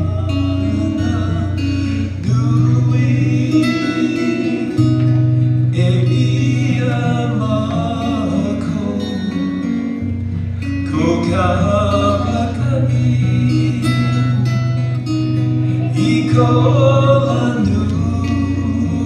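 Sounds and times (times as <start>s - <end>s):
man singing: 0.0s - 10.0s, 10.6s - 19.0s
acoustic guitar: 0.0s - 19.0s.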